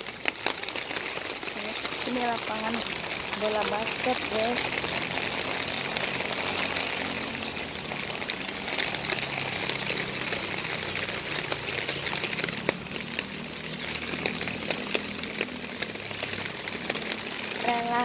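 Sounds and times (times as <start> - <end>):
raindrops tapping plastic umbrella: 0.0 - 18.0
steady rain falling: 0.0 - 18.0.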